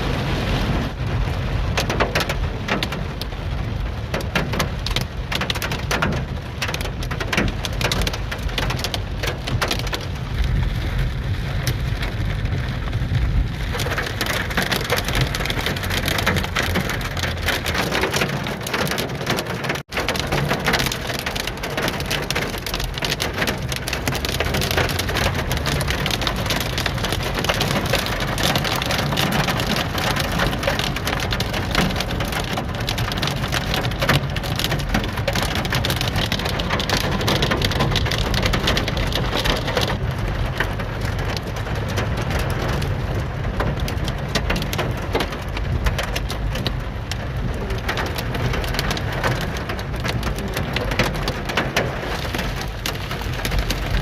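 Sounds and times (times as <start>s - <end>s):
heavy rain drumming: 0.0s - 54.0s.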